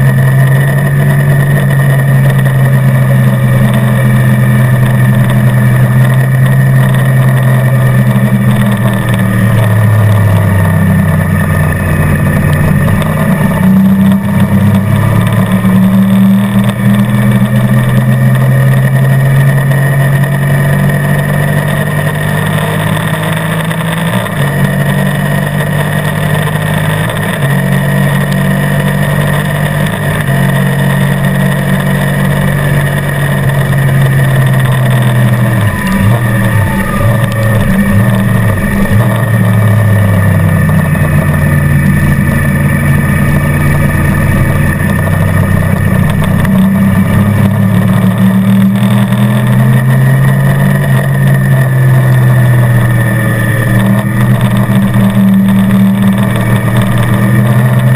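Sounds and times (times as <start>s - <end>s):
motorcycle engine revving through gears: 0.0s - 57.9s.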